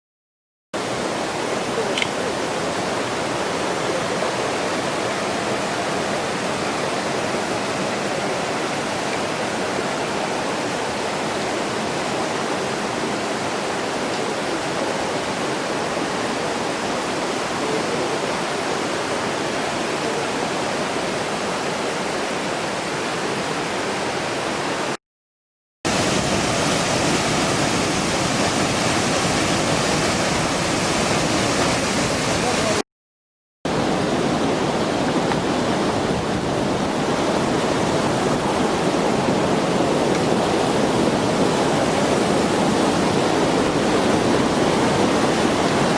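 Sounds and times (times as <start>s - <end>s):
river water rushing over rocks: 0.8s - 25.0s, 25.9s - 32.8s, 33.7s - 45.9s.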